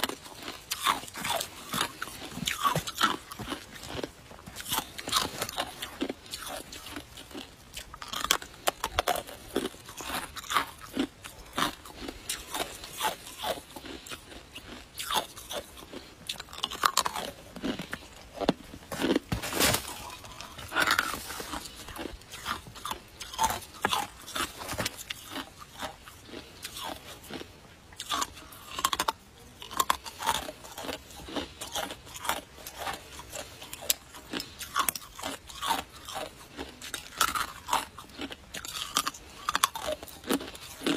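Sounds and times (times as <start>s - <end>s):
ice crunching between teeth: 0.0s - 40.9s.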